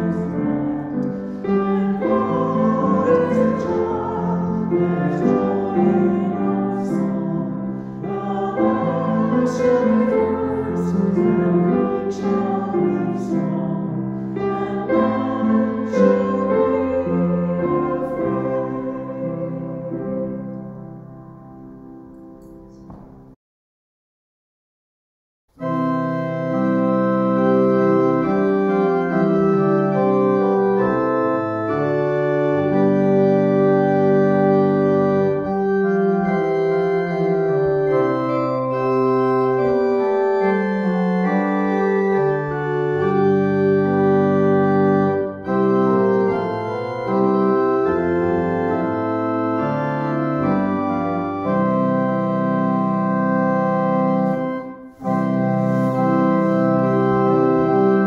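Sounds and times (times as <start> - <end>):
pipe organ playing chords: 0.0 - 23.2, 25.6 - 58.0.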